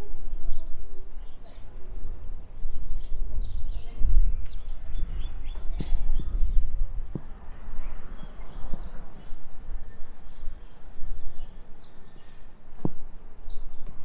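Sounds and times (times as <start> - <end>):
small birds chirping: 0.0 - 14.0
wind and riding noise: 0.0 - 14.0.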